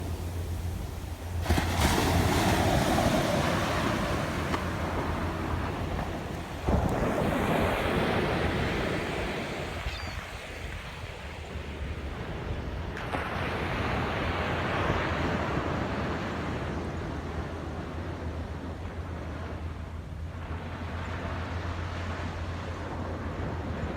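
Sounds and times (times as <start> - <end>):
ocean waves breaking: 0.0 - 23.9
wind buffeting microphone: 0.0 - 23.9.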